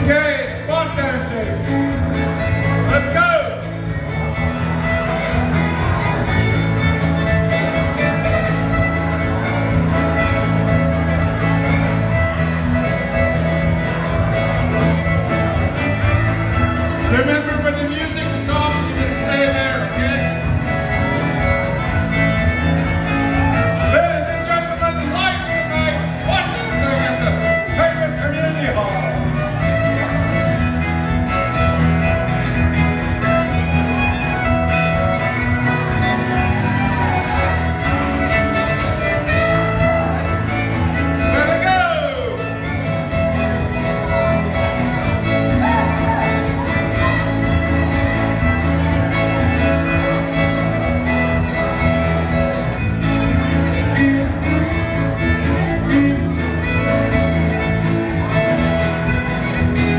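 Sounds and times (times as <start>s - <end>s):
bass: 0.0s - 59.9s
fiddle dance tune: 0.0s - 59.9s.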